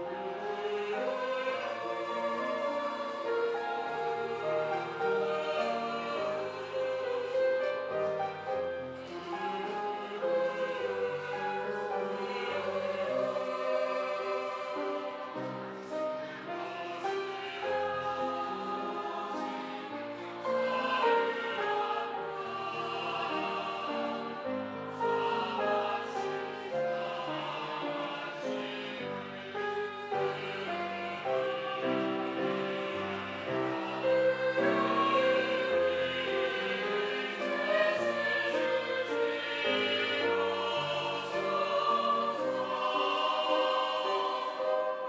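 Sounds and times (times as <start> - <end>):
choir with instrumental accompaniment: 0.0 - 45.0.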